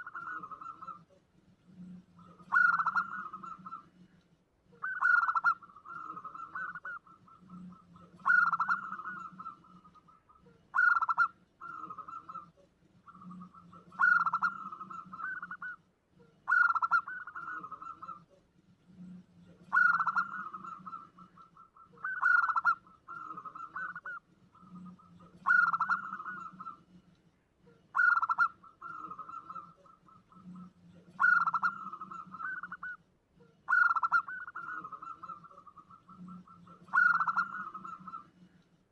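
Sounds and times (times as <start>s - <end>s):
dove cooing with rattling trill: 0.0s - 4.1s, 4.7s - 27.0s, 27.7s - 33.0s, 33.7s - 38.6s.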